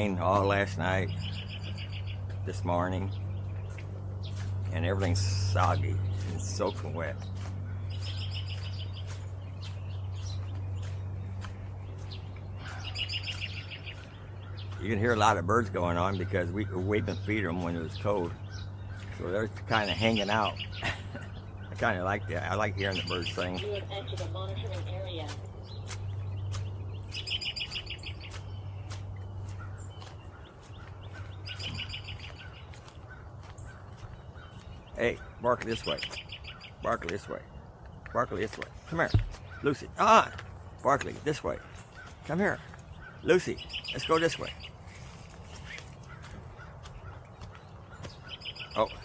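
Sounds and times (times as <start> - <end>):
rapid bird trill: 0.0 - 49.0
songbirds chirping: 0.0 - 49.0
steady low hum: 0.0 - 49.0.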